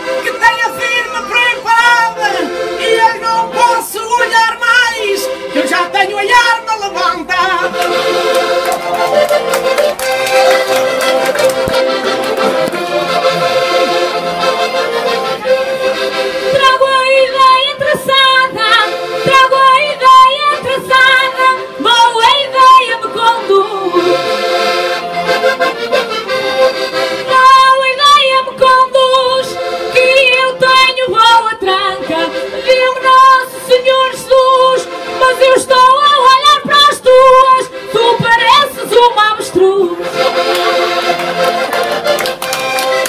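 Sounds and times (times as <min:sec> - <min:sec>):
accordions playing folk melody: 0:00.0 - 0:43.0.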